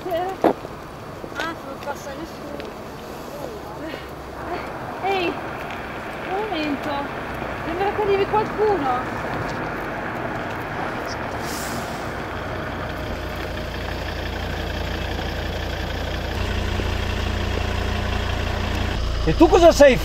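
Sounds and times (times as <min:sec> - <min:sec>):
car engine approaching and idling: 0:03.0 - 0:20.0.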